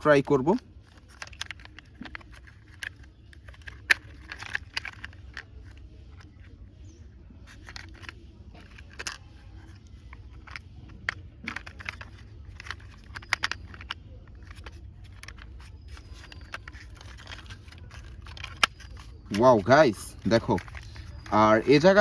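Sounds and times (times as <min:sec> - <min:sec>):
plastic parts clicking together: 0:00.0 - 0:22.0.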